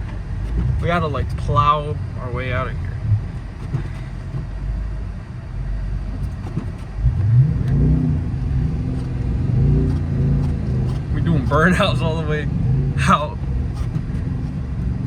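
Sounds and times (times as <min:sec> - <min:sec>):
tyres spinning in snow: 0:00.0 - 0:04.8, 0:05.8 - 0:15.0
car engine revving: 0:00.0 - 0:15.0.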